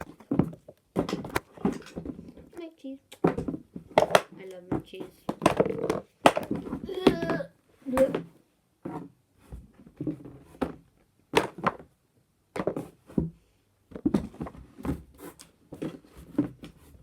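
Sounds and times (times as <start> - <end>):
fidget toys knocking and clattering: 0.0 - 2.6, 3.2 - 15.1.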